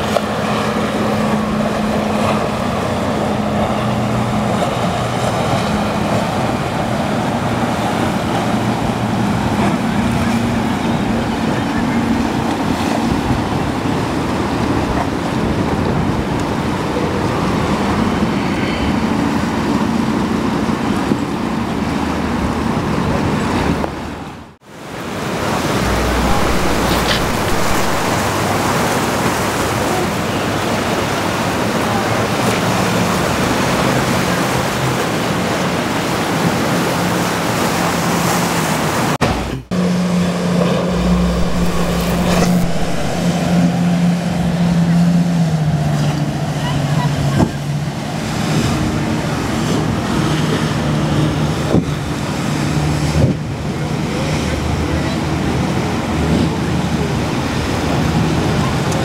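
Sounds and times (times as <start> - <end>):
breaking surf: 0.0 - 59.0
motorboat engines running: 0.0 - 59.0
wind: 0.0 - 59.0.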